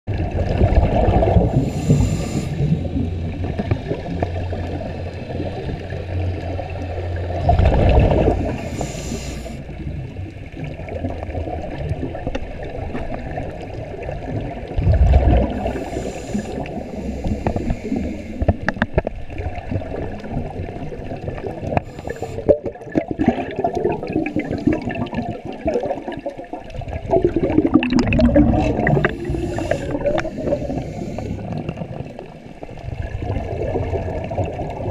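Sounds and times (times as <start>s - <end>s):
underwater exhaled bubbles: 0.1s - 34.9s.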